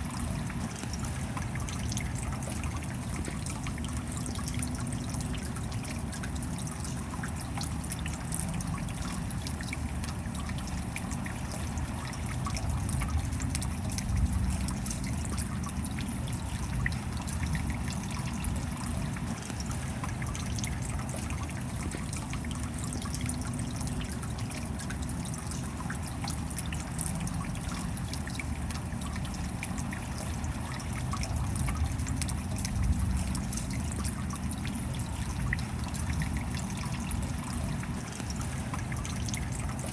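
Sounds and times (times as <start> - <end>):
steady rainfall: 0.0 - 39.9
water trickling and dripping: 0.0 - 39.9.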